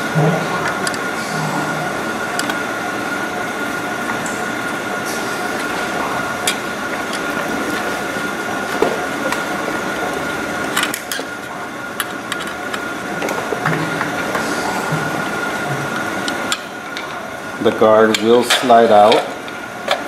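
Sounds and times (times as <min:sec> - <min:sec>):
mechanical hum and hiss: 0:00.0 - 0:20.0
thin constant whine: 0:00.0 - 0:20.0.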